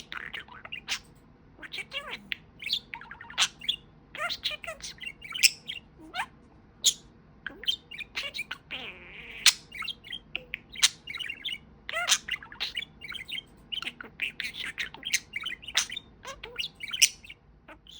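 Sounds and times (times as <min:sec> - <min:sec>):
budgie chattering: 0:00.0 - 0:17.9.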